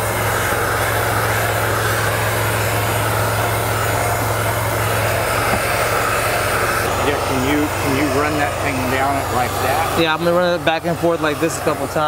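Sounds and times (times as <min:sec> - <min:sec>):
blow dryer running: 0:00.0 - 0:12.0.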